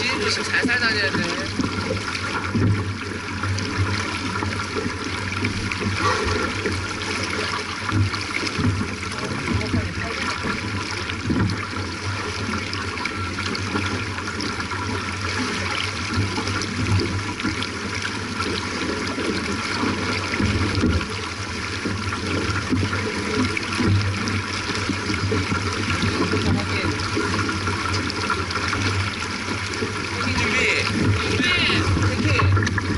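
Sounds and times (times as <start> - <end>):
water rushing along boat hull: 0.0 - 32.9.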